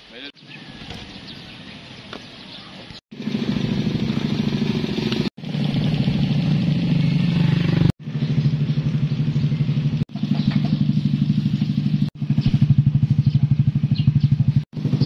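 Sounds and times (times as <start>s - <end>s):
motorcycle engines idling: 0.2s - 15.0s.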